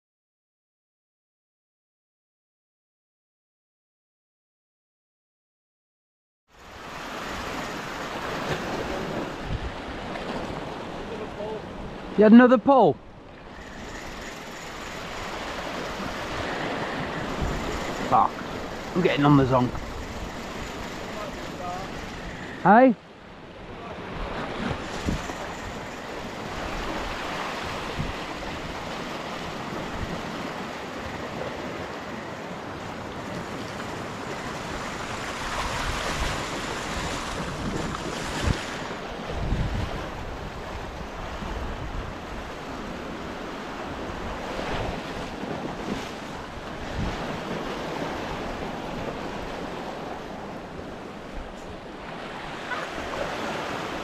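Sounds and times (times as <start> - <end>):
waves breaking on rocks: 6.7 - 12.9, 13.5 - 22.8, 23.5 - 54.0
wind buffeting microphone: 6.8 - 12.2, 13.1 - 22.6, 23.4 - 54.0.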